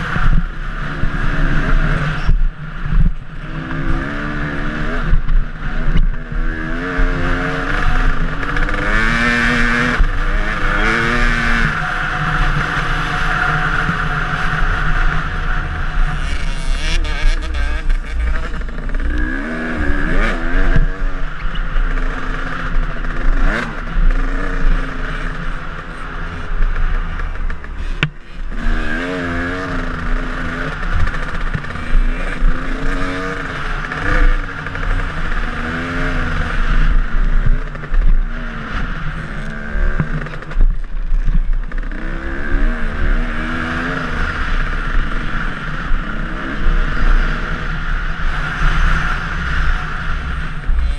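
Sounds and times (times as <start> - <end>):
dirt bike engine revving: 0.0 - 40.6, 41.5 - 50.9.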